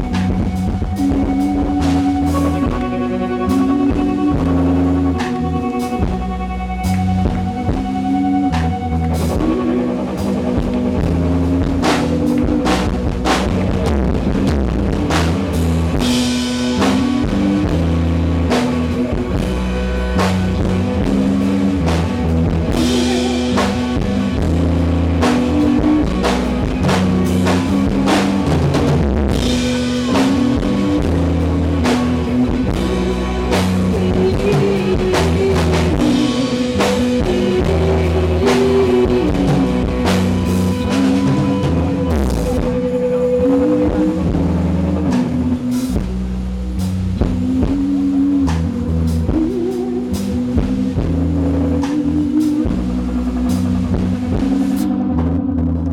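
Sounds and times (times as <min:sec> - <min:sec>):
bass guitar: 0:00.0 - 0:55.9
drum kit beat: 0:00.0 - 0:55.9
electric guitar: 0:00.0 - 0:55.9.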